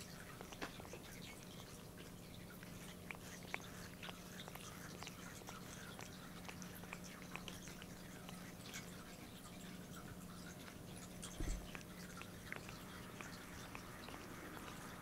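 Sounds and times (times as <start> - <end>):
cat licking paw: 0.0 - 15.0.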